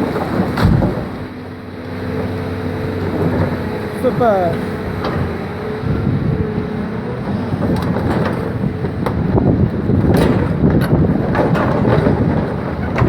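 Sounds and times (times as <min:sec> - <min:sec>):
excavator grinding rumble: 0:00.0 - 0:13.0.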